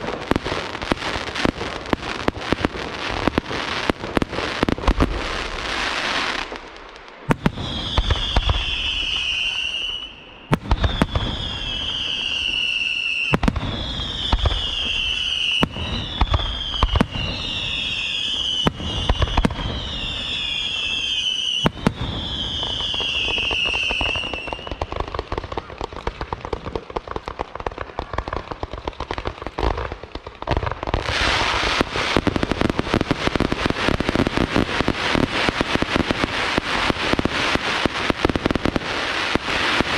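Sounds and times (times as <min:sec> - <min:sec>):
firework bangs: 0:00.0 - 0:39.9
fireworks crackling: 0:00.0 - 0:39.9
whistling fireworks: 0:00.0 - 0:39.9.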